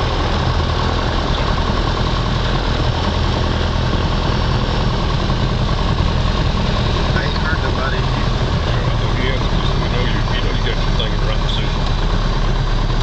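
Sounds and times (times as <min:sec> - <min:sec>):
airplane engine and propeller: 0:00.0 - 0:13.0.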